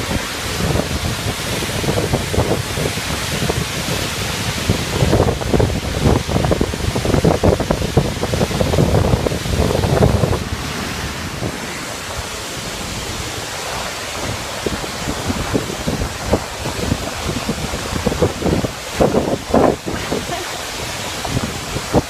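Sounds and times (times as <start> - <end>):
waterfall roaring: 0.0 - 22.0
wind buffeting microphone: 0.0 - 22.0.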